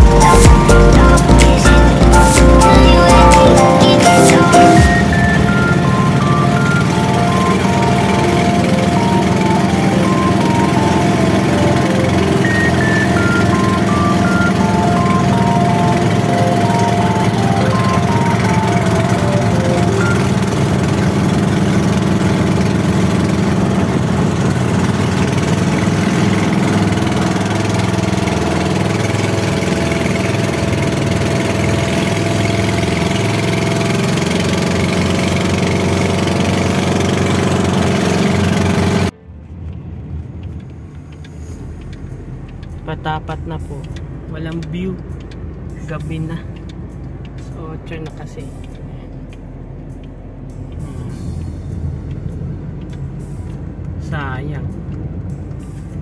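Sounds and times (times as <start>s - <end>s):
music with short stepping notes: 0.0s - 54.1s
engine running: 0.0s - 56.0s.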